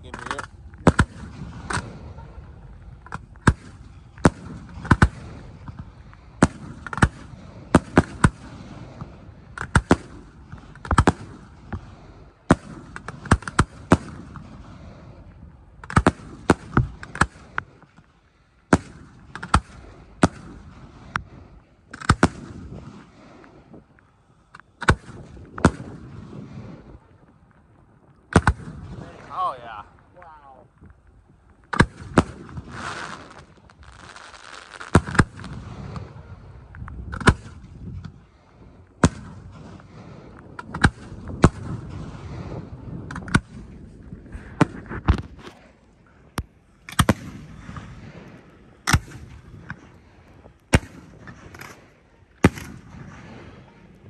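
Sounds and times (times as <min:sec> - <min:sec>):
firework shells bursting: 0:00.0 - 0:18.1, 0:18.7 - 0:54.0.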